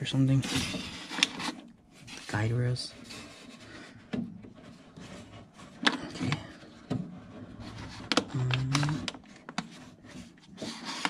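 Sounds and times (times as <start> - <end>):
rubber rubbing: 0.4 - 11.0.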